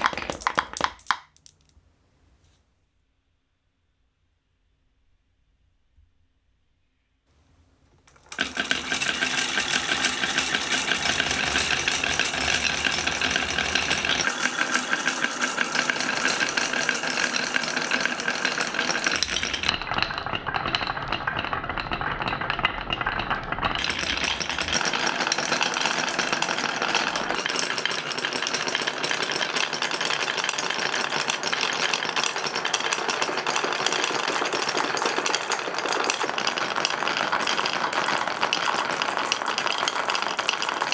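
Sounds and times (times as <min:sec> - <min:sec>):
marbles rattling down wooden run: 0:00.0 - 0:01.8, 0:07.6 - 0:40.9.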